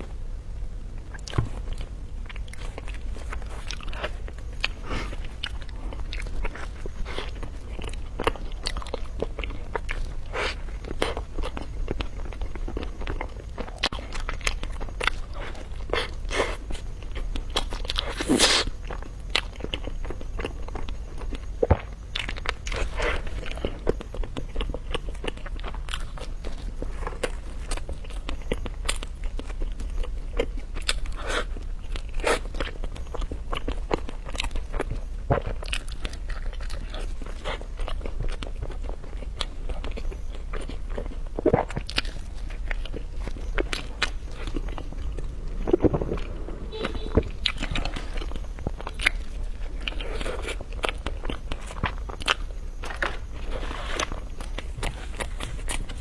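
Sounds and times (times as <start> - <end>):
person chewing food: 1.0 - 56.0.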